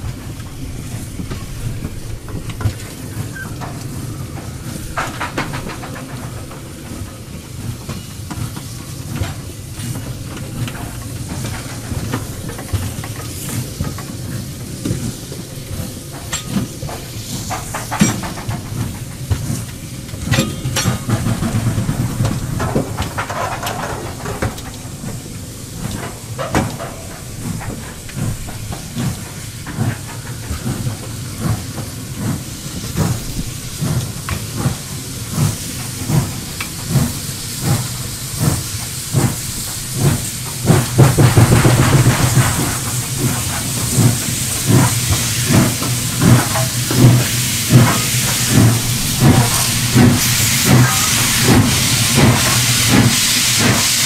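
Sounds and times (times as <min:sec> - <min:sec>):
steam hiss: 0:00.0 - 0:54.0
steam locomotive exhaust chuffing: 0:00.0 - 0:54.0.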